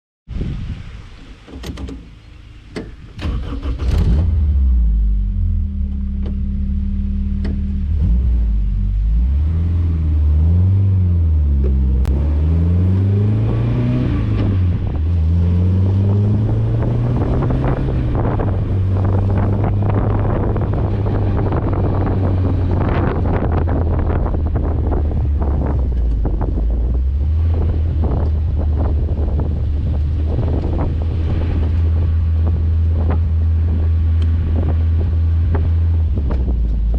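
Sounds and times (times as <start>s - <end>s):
car engine starting and idling: 0.8s - 36.9s
engine throttle blips: 0.8s - 36.9s.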